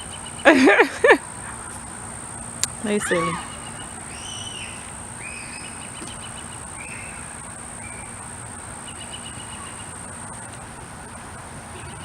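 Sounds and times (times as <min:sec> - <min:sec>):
high-pitched insect drone: 0:00.0 - 0:12.0
low background hiss: 0:00.0 - 0:12.0
rapid chirping trills: 0:00.0 - 0:12.0.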